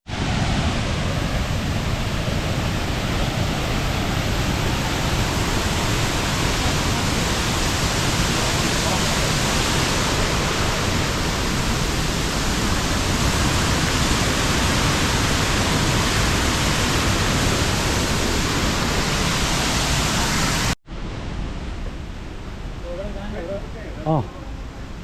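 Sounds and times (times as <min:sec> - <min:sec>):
waterfall rushing: 0:00.1 - 0:20.8.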